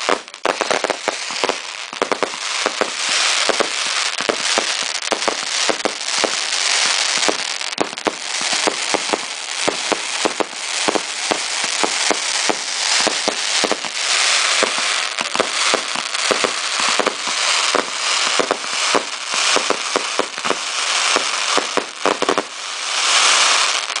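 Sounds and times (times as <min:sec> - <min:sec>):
fireworks hiss and crackle: 0:00.0 - 0:24.0.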